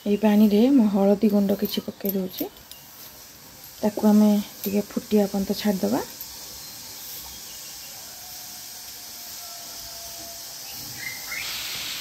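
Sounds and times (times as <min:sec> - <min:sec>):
water hissing as it heats: 0:00.0 - 0:12.0.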